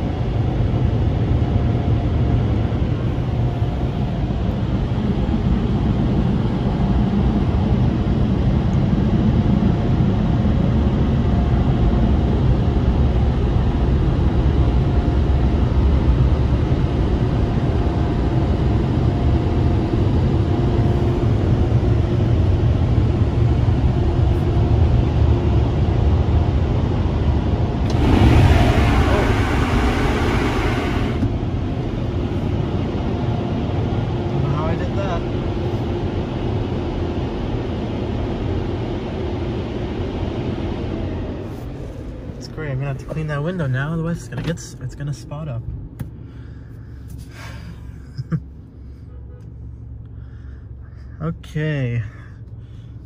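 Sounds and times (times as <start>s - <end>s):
car wash dryer blowers rumbling: 0.0s - 53.0s
faint hum: 0.0s - 53.0s.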